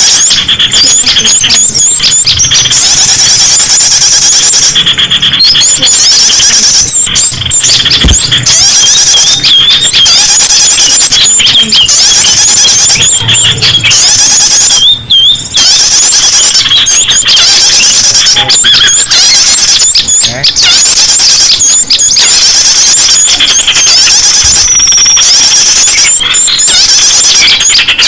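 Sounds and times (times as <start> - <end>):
small songbirds chirping and whistling: 0.0 - 28.0.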